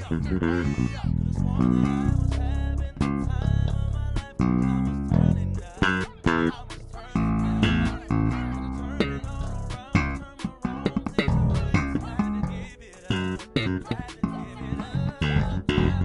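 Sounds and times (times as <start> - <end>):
funky electric bass playing: 0.0 - 16.0.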